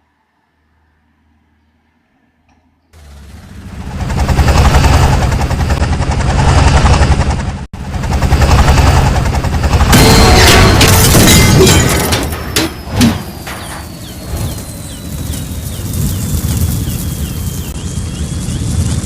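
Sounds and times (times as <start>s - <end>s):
helicopter rotor and engine: 3.0s - 19.0s.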